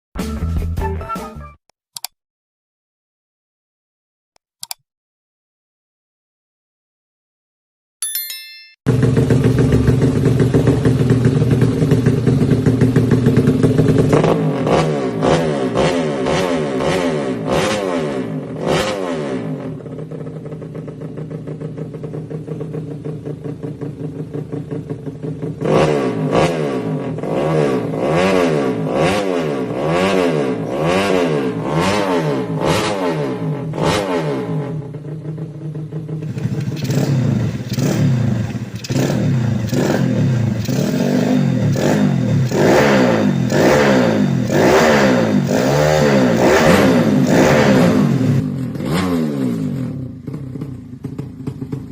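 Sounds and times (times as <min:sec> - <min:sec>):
motorcycle engine idling and revving: 0:08.9 - 0:51.9.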